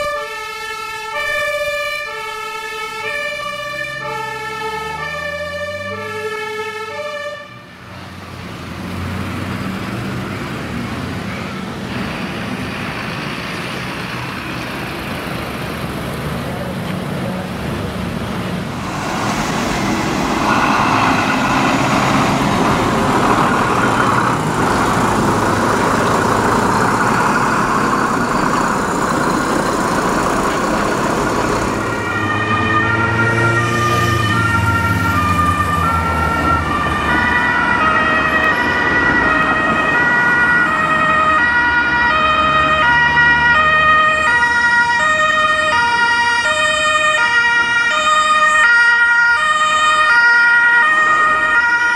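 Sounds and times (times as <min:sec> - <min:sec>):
two-tone sirens: 0:00.0 - 0:15.4, 0:18.6 - 0:51.9
truck engine and road noise: 0:00.0 - 0:51.9.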